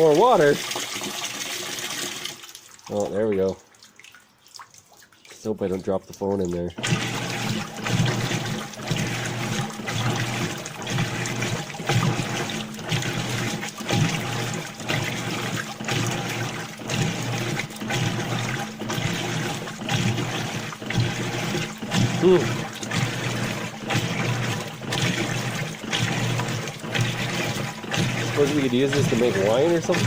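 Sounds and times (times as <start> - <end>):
washing machine humming: 0.0 - 4.6, 5.2 - 30.0
water gushing into washing machine: 0.0 - 30.0.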